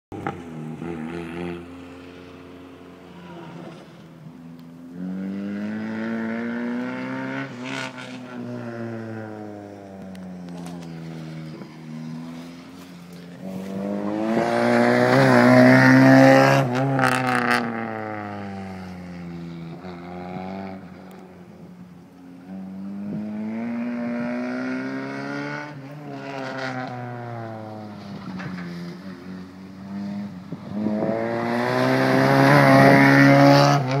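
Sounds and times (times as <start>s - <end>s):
unmuffled car engine revving: 0.1s - 34.0s.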